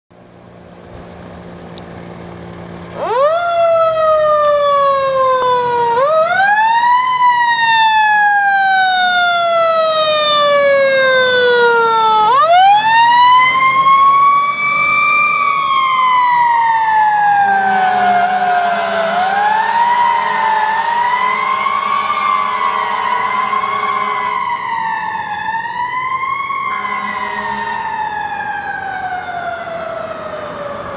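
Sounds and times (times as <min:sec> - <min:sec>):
low engine rumble: 0:00.1 - 0:30.9
fire engine siren wailing: 0:01.4 - 0:30.9.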